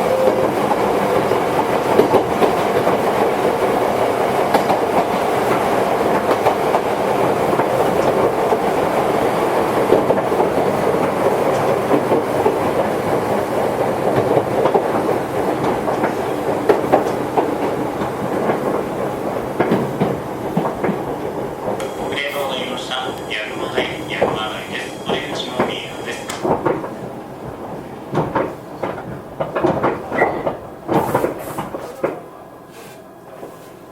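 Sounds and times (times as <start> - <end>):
train rolling noise: 0.0 - 33.9
wheels clicking over rail joints: 0.3 - 21.9, 22.9 - 32.3.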